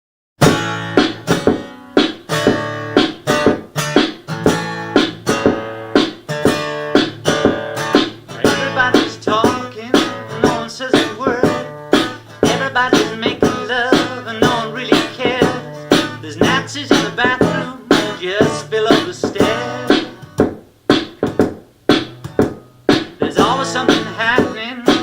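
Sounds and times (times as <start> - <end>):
strummed guitar chords: 0.4 - 25.0.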